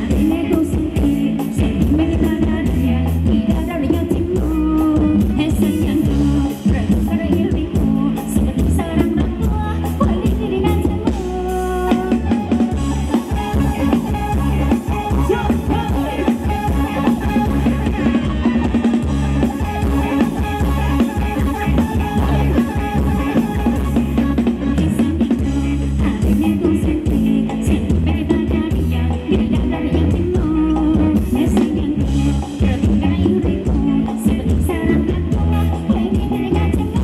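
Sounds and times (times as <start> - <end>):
drum kit beat: 0.0 - 37.0
live band dance music: 0.0 - 37.0
person singing: 0.0 - 37.0.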